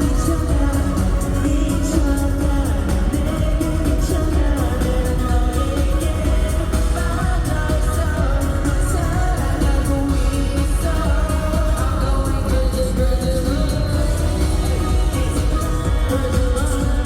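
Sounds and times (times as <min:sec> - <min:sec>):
group singing: 0:00.0 - 0:17.0
heavy bass beat: 0:00.0 - 0:17.0.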